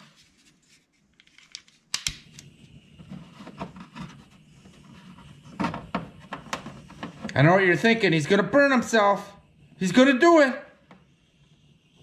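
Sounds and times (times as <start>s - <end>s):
torch burning with hiss: 1.8s - 12.0s.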